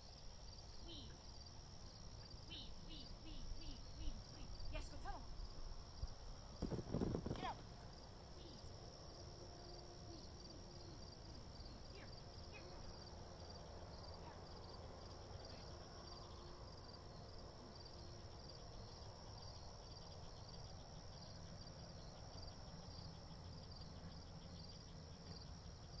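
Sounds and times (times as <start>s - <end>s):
crickets chirping: 0.0s - 26.0s
faint low outdoor rumble: 0.0s - 26.0s.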